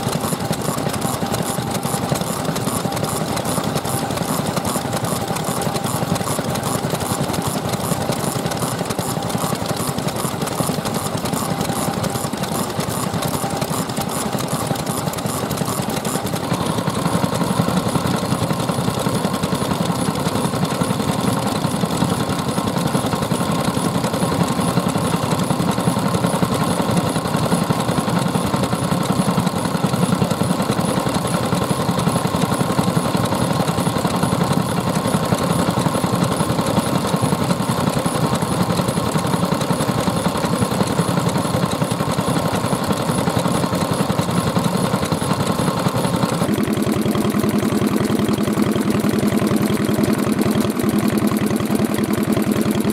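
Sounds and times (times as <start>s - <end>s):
stationary engines running: 0.0s - 52.9s.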